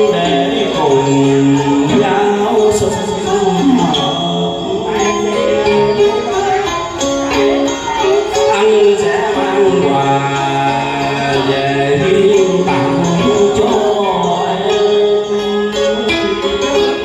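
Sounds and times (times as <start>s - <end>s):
man singing into a microphone: 0.0s - 6.6s, 7.8s - 17.0s
karaoke backing track: 0.0s - 17.0s.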